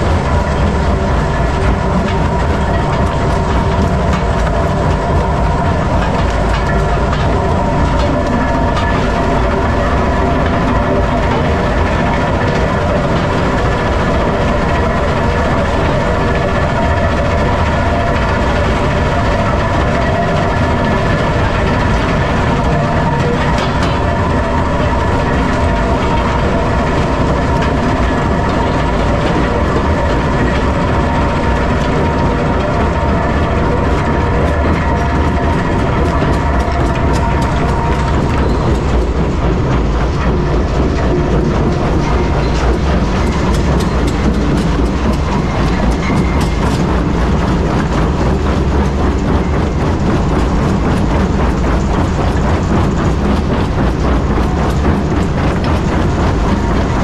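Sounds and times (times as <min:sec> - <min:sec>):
jaw crusher low rumble: 0:00.0 - 0:57.0.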